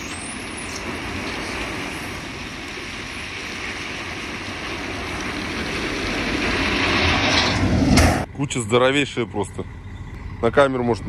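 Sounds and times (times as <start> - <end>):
diesel machinery rumble: 0.0 - 11.0.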